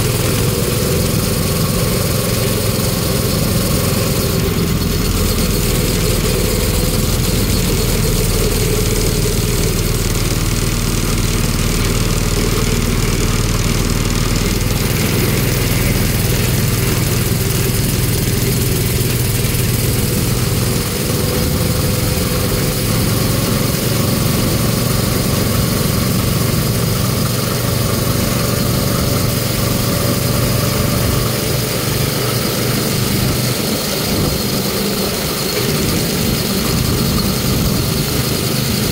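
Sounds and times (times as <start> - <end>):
road and wind noise: 0.0 - 38.9
small gasoline engine running: 0.0 - 38.9.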